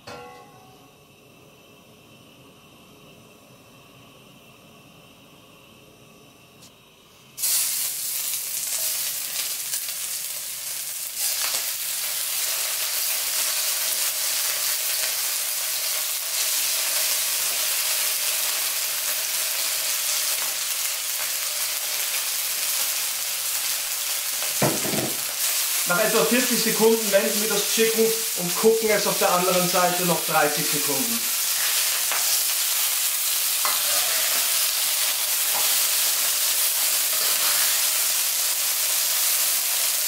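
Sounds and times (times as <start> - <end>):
chicken sizzling in hot oil: 7.4 - 40.0.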